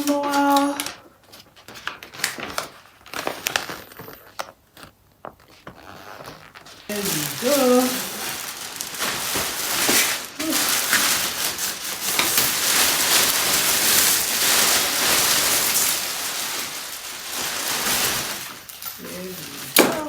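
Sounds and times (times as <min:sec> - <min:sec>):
packaging rustling and crinkling: 0:00.0 - 0:20.0.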